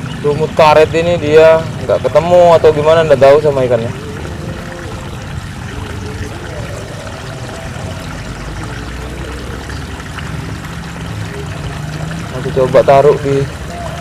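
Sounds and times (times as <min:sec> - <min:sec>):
shallow river flowing: 0:00.0 - 0:14.0.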